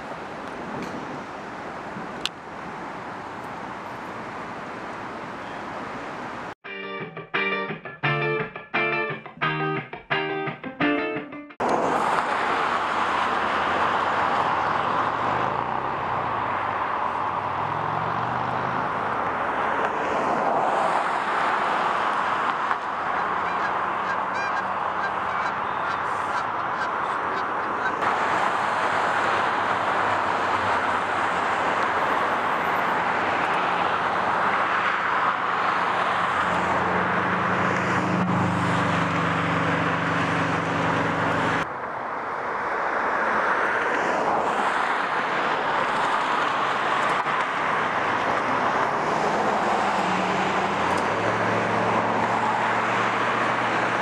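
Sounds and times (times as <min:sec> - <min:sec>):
steady road traffic: 0:00.0 - 0:54.0.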